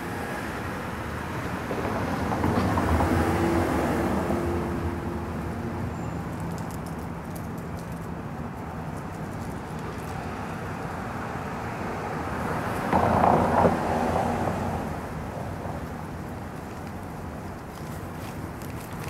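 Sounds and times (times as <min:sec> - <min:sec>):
ambient traffic hum: 0:00.0 - 0:19.0.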